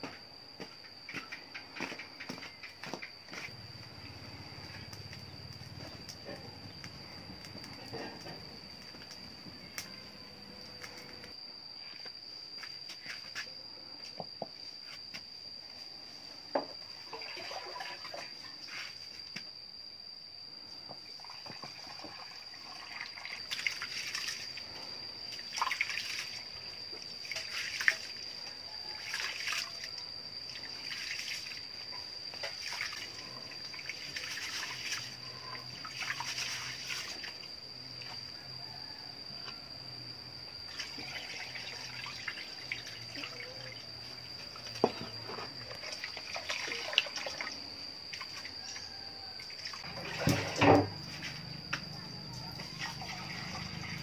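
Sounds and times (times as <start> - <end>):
high-pitched whine: 0.0 - 17.2, 17.9 - 46.2, 46.8 - 54.0.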